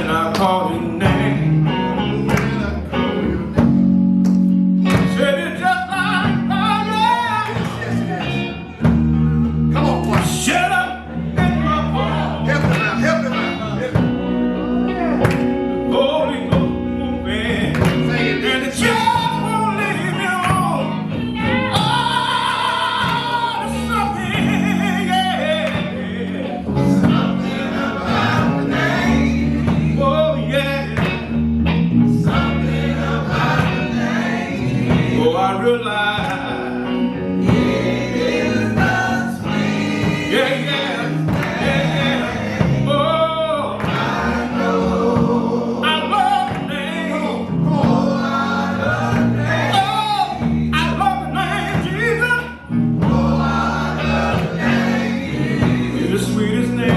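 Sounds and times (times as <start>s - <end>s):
band accompaniment: 0.0s - 56.9s
gospel choir singing: 0.0s - 56.9s
steady bass notes: 0.0s - 56.9s.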